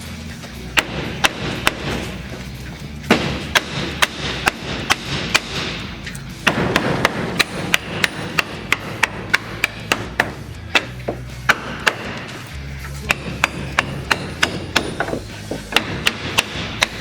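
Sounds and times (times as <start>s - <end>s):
hammer striking wood: 0.7s - 2.2s, 3.1s - 5.8s, 6.4s - 12.4s, 13.0s - 17.0s.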